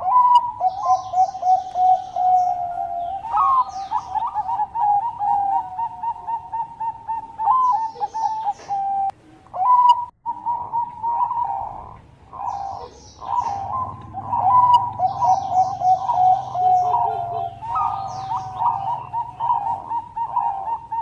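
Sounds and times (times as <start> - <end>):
doves cooing: 0.0 - 21.0.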